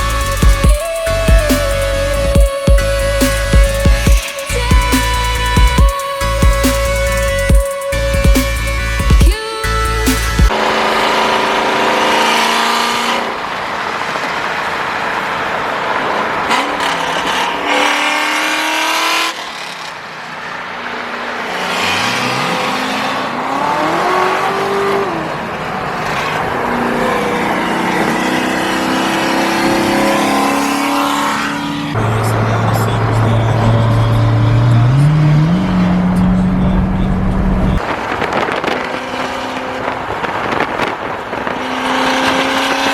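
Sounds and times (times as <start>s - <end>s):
car engine revving: 0.0s - 42.9s
road noise: 0.0s - 42.9s.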